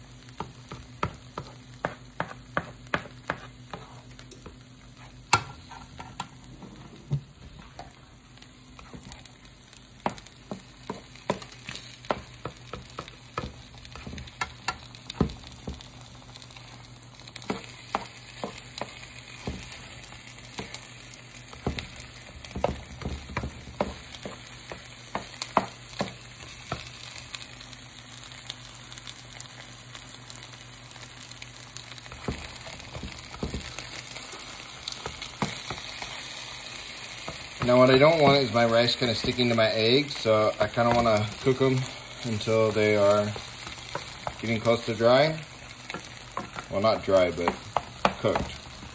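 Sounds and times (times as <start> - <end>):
eggs sizzling in a pan: 0.0 - 48.9.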